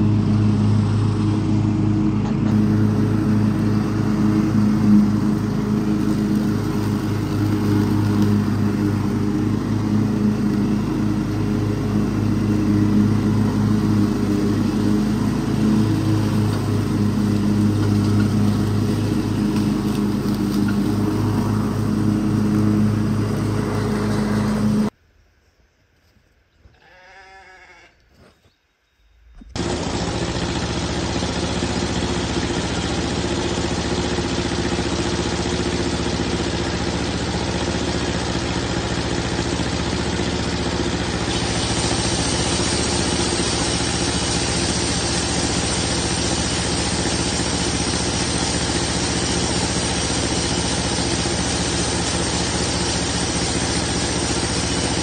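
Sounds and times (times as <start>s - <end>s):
ride-on lawn mower engine: 0.0s - 25.0s, 29.5s - 55.0s
sawmill engine starting and running: 0.0s - 25.0s, 29.4s - 55.0s.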